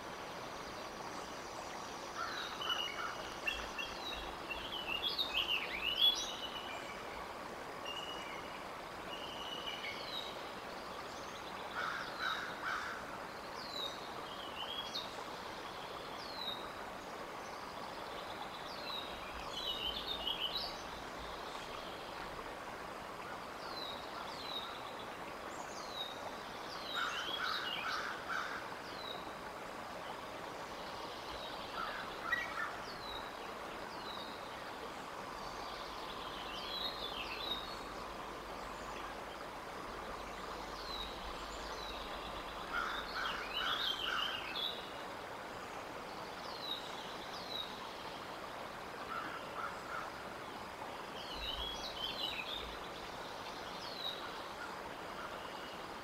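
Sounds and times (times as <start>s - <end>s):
steady outdoor hiss: 0.0s - 56.0s
songbirds singing: 0.4s - 22.4s, 23.3s - 56.0s.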